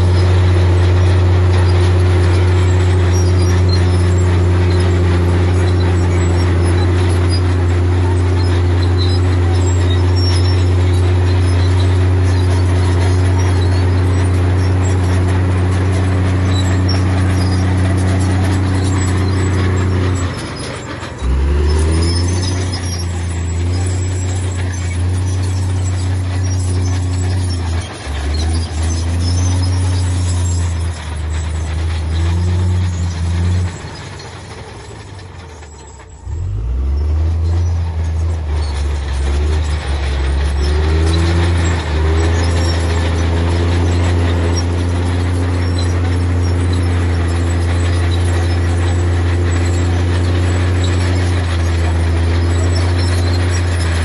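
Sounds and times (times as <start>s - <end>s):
faint squeals: 0.0s - 54.0s
heavy diesel engine under load: 0.0s - 54.0s.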